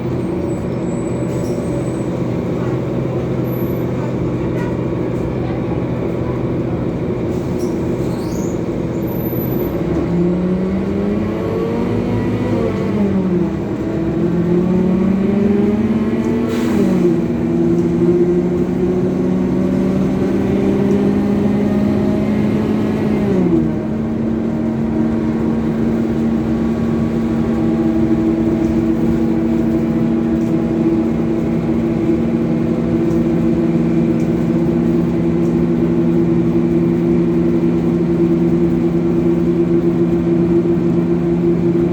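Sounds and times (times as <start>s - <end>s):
coach engine changing gears: 0.0s - 41.9s.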